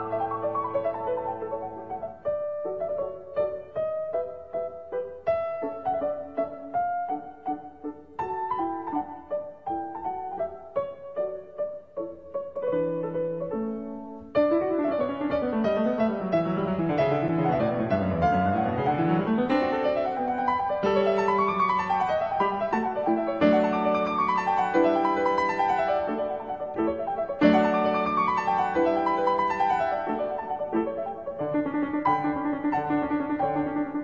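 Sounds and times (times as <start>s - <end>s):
background piano music: 0.0s - 34.0s.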